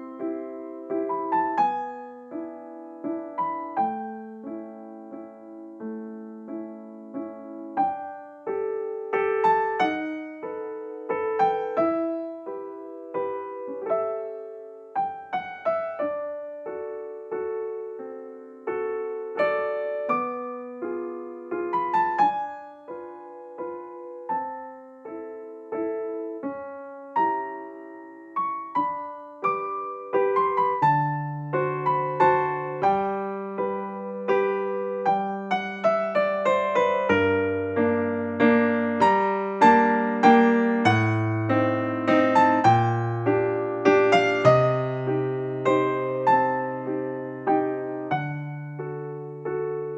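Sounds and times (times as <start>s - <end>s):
solo piano melody: 0.0s - 49.9s.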